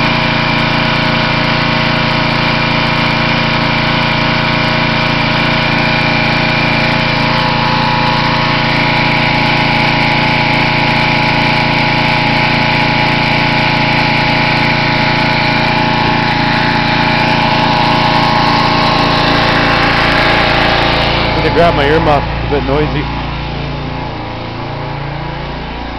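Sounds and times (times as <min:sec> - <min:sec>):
pressure washer engine running: 0:00.0 - 0:25.9.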